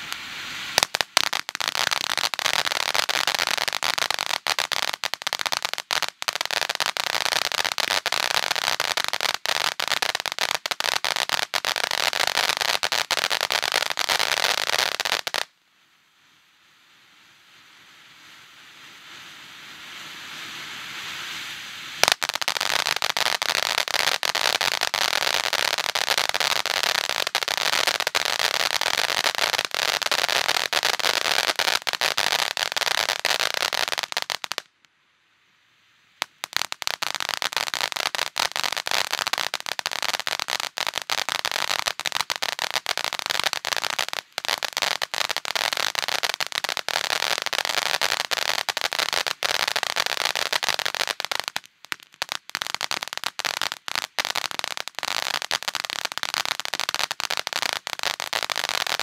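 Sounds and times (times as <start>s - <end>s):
firework hissing and crackling: 0.0s - 15.5s, 16.4s - 34.7s, 36.2s - 59.0s.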